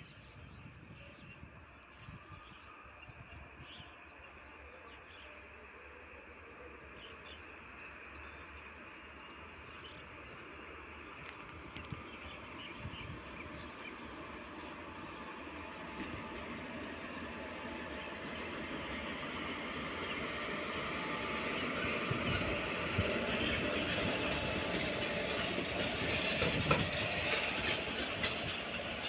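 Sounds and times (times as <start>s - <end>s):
distant train rumble: 0.0s - 29.0s.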